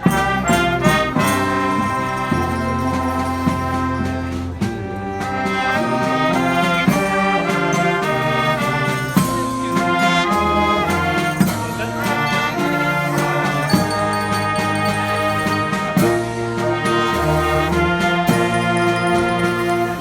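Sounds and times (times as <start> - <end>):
brass horns playing in harmony: 0.0 - 20.0
sharp percussion hits: 0.0 - 20.0.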